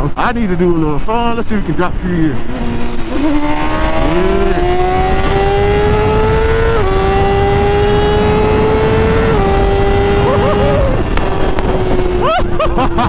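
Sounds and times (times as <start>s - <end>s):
wind rush on microphone: 1.5s - 13.0s
motorcycle engine accelerating hard: 1.6s - 13.0s.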